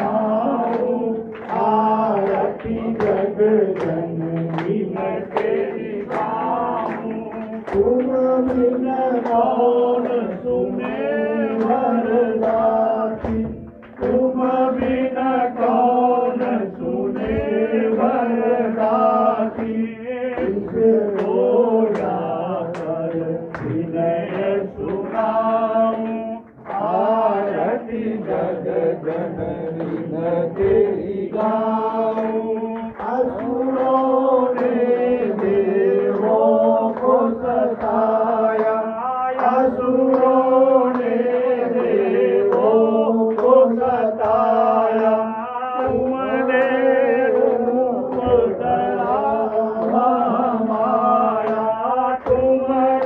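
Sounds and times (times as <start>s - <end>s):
steady percussive beat: 0.0s - 38.8s, 39.4s - 53.0s
devotional singing: 0.0s - 53.0s.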